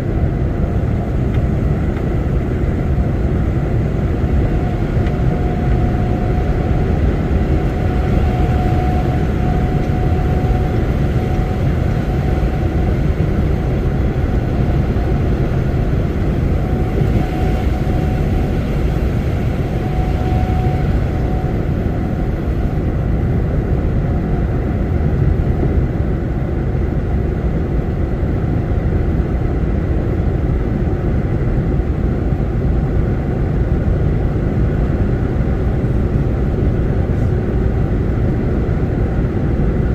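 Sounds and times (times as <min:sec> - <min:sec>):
faint steady whine: 0:00.0 - 0:39.9
truck engine and road noise: 0:00.0 - 0:39.9.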